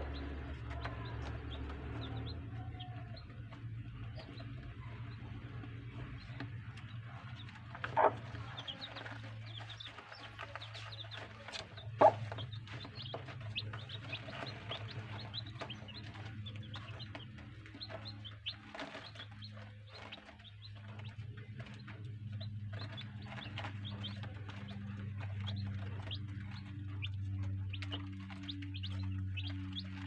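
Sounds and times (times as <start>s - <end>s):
chicks peeping: 0.0s - 30.0s
steady low hum: 0.0s - 30.0s.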